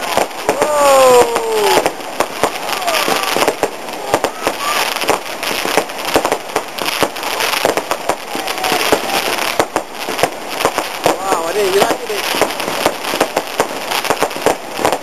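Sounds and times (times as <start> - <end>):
fireworks bangs and crackles: 0.0 - 15.0
steady hiss: 0.0 - 15.0.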